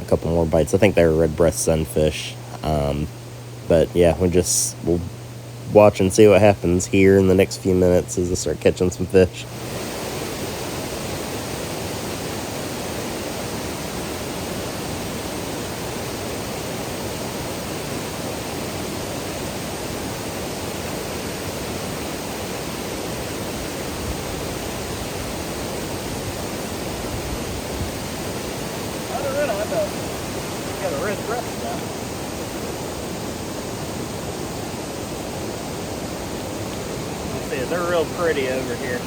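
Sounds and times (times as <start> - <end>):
rushing white water roar: 0.0 - 39.0.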